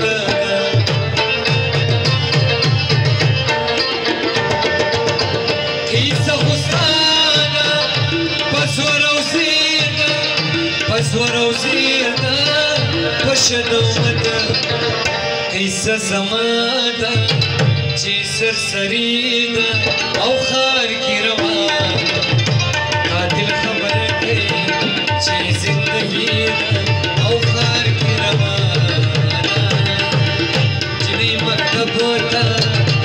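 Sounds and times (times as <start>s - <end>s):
hand drum rhythm: 0.0s - 15.5s, 21.3s - 33.0s.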